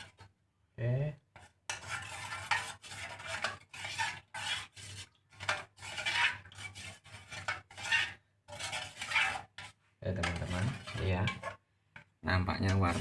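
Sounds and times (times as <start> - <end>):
seeds stirred and scraped in a pan: 0.0 - 0.3, 1.4 - 13.0.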